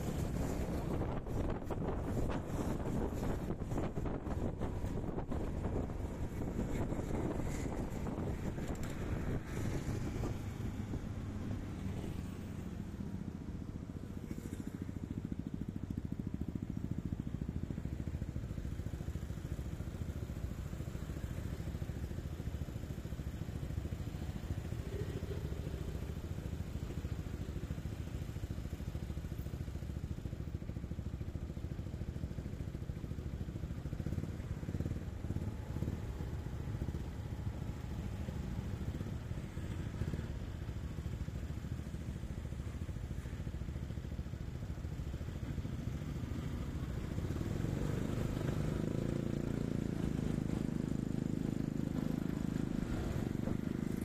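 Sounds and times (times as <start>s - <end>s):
motor scooter engines: 0.0s - 54.0s.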